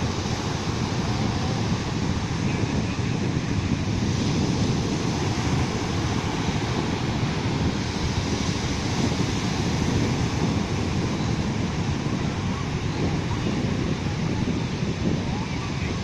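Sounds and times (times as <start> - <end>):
waves washing up a beach: 0.0 - 16.0.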